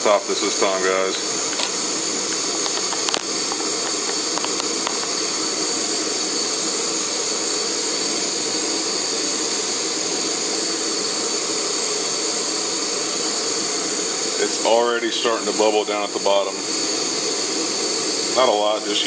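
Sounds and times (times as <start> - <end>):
gas stove hissing: 0.0 - 19.0.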